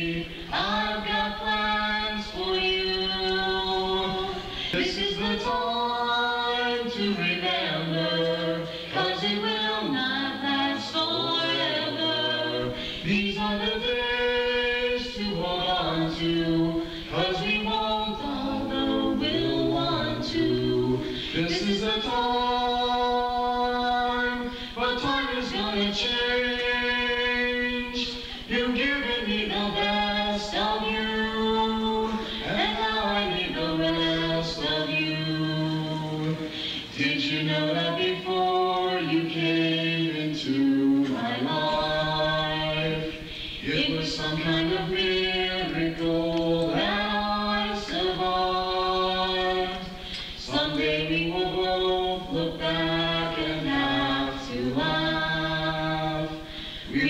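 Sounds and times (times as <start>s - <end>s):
man singing: 0.0s - 9.5s, 10.5s - 57.0s
woman singing: 0.0s - 57.0s.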